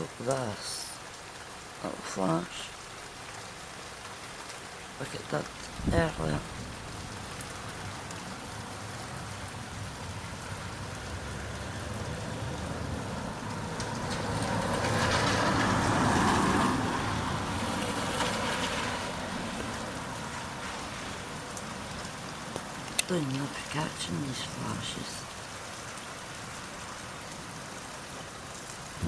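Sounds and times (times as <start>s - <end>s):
steady rain falling: 0.0s - 29.0s
tyres hissing on wet road: 0.0s - 29.0s.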